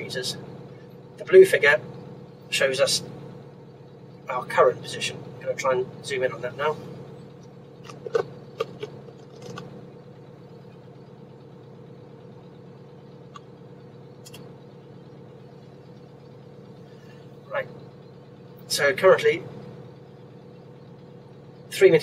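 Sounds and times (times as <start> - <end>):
excavator diesel engine idling: 0.0 - 22.0.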